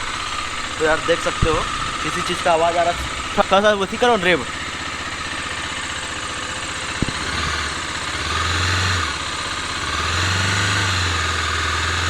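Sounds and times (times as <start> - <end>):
abnormal engine noise: 0.0 - 12.0
motorcycle engine idling: 0.0 - 12.0.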